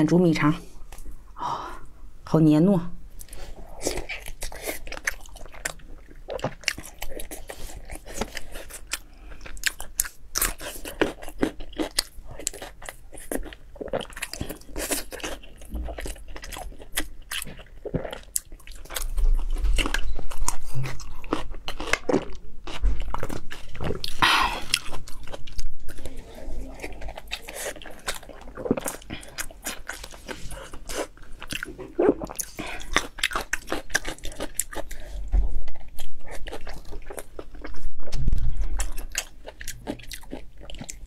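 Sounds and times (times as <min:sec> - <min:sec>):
close chewing and biting: 0:03.2 - 0:41.0.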